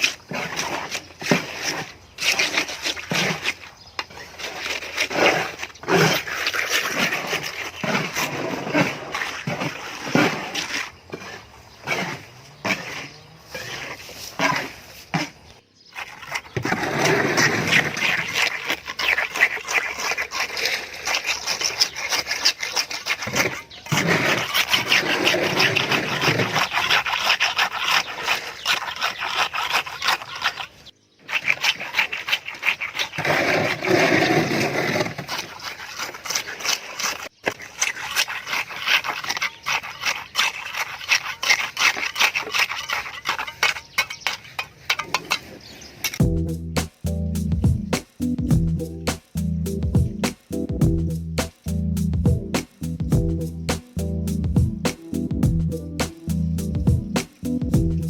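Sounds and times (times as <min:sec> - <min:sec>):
hand tool scraping gritty surface: 0:00.0 - 0:58.0.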